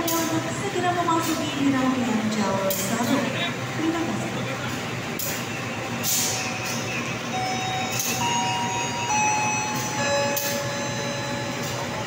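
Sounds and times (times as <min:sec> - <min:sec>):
train rumble with whining tones: 0:00.0 - 0:12.0.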